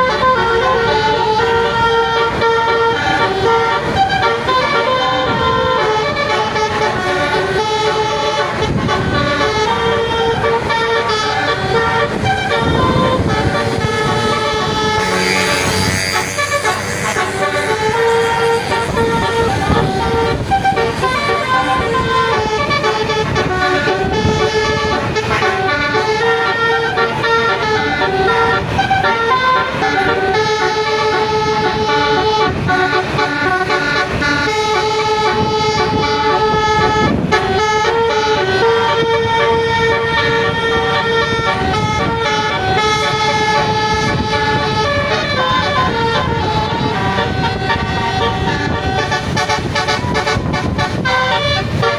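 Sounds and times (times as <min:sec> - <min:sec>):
multi-tone bus horn melody: 0:00.0 - 0:51.9.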